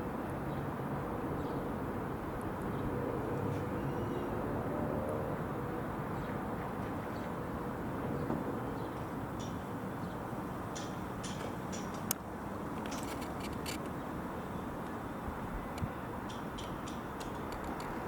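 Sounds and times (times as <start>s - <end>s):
distant jet aircraft rumble: 0.0s - 18.0s.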